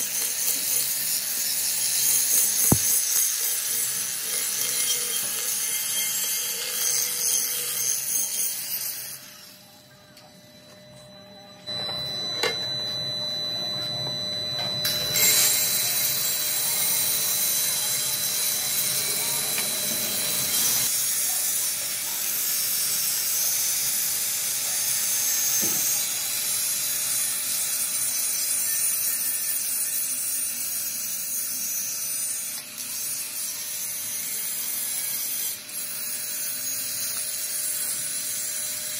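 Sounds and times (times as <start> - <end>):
angle grinder grinding metal: 0.0 - 10.8, 11.8 - 38.9.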